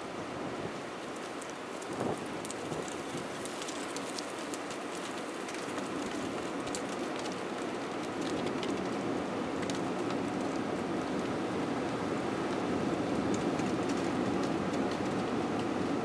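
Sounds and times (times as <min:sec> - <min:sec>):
twigs crackling under tyres: 0:00.8 - 0:15.8
tyres rolling on asphalt: 0:01.0 - 0:15.7.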